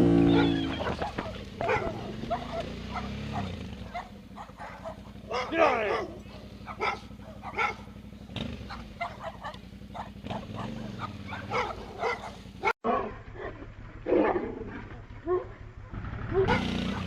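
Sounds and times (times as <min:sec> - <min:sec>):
motorcycle engine running and revving: 0:00.0 - 0:12.8, 0:15.4 - 0:17.0
dog barking: 0:00.3 - 0:08.0, 0:08.6 - 0:17.0.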